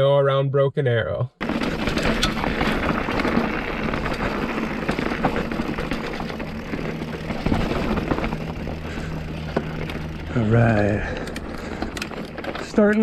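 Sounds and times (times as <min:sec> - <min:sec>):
bike clicks and rattles: 0:01.4 - 0:13.0
tyres rolling over dirt and rock: 0:01.4 - 0:13.0.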